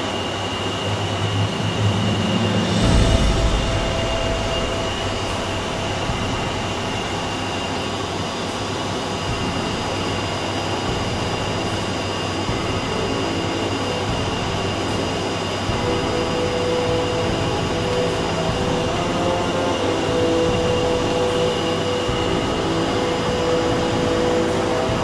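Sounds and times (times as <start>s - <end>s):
steady high whines: 0.0s - 25.0s
turboprop engines and propellers: 0.0s - 25.0s.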